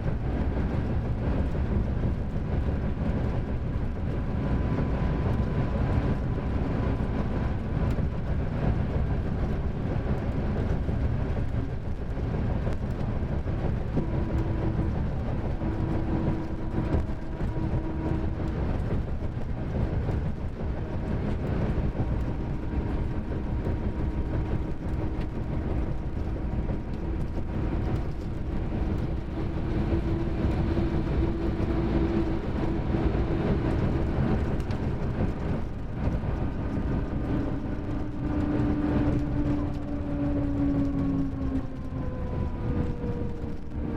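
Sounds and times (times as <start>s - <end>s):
diesel engine low rumble: 0.0s - 43.9s.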